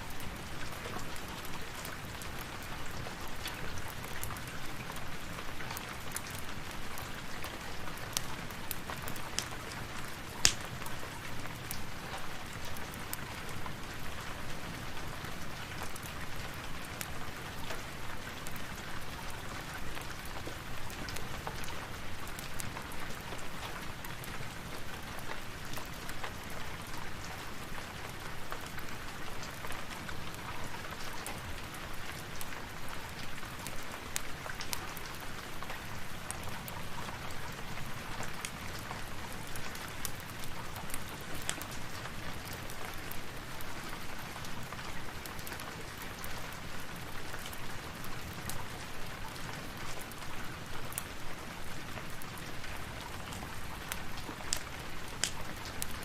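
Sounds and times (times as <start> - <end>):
rain falling: 0.0 - 56.0
wood fire crackling: 0.1 - 56.0.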